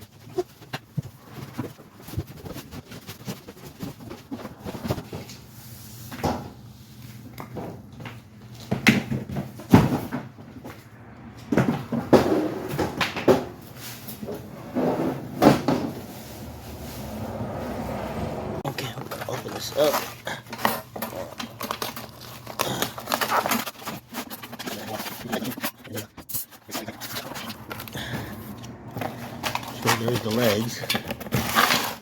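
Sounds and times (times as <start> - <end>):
cardboard and packing rustling: 0.0 - 17.9, 18.6 - 32.0.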